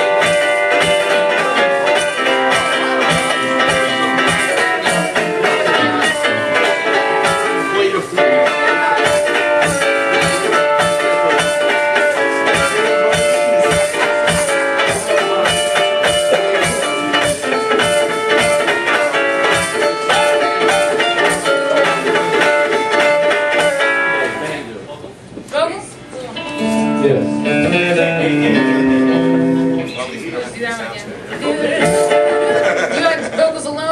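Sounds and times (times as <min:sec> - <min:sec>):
drum beat: 0:00.0 - 0:24.3, 0:26.6 - 0:29.9, 0:31.8 - 0:32.9
guitar: 0:00.0 - 0:33.9.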